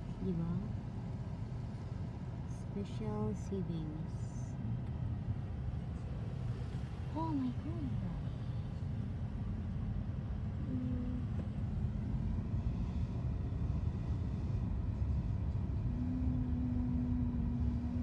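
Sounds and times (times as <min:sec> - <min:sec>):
car interior road rumble: 0:00.0 - 0:18.0
low steady hum: 0:00.0 - 0:18.0.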